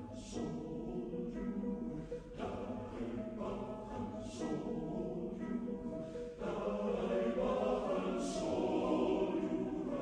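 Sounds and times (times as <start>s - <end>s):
choir singing held chords: 0.0s - 10.0s.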